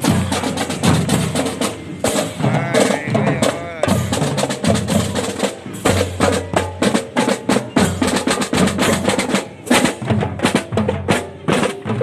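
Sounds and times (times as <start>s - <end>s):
fast dense drumming music: 0.0s - 12.0s.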